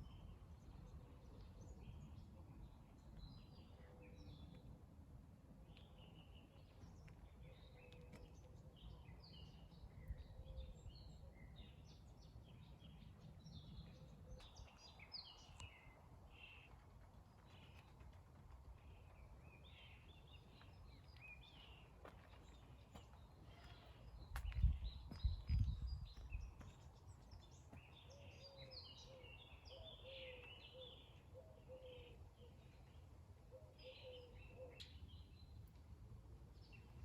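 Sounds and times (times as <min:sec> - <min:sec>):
songbirds singing: 0:00.0 - 0:04.8, 0:05.6 - 0:37.0.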